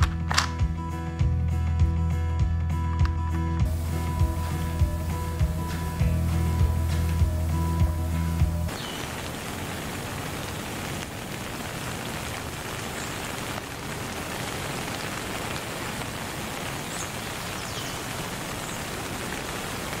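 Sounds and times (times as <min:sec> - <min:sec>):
steady rain hiss: 0:03.6 - 0:20.0.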